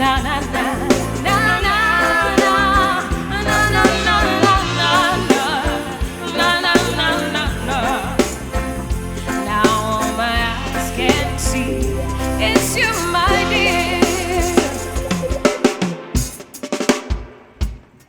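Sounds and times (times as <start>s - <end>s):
person singing wordless lines: 0.0s - 15.5s
bass: 0.0s - 15.6s
keyboard: 0.0s - 17.0s
steady drum beat: 0.0s - 18.0s.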